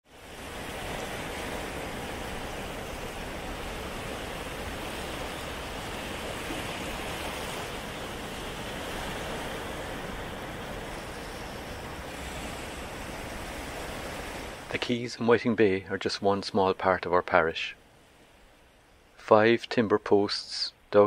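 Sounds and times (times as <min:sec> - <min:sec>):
sea surf washing on beach: 0:00.1 - 0:20.7.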